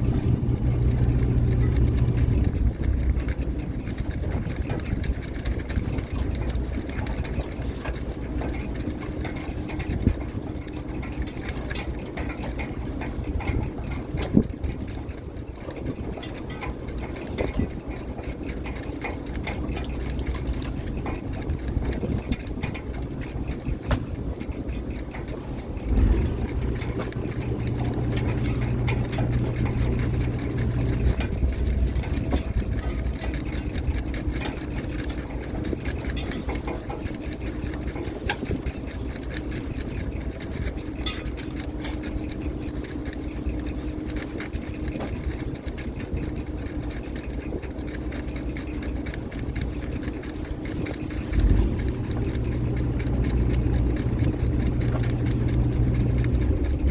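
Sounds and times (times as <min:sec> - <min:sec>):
boat engine humming: 0:00.0 - 0:56.9
light clicks and rattles: 0:00.0 - 0:56.9.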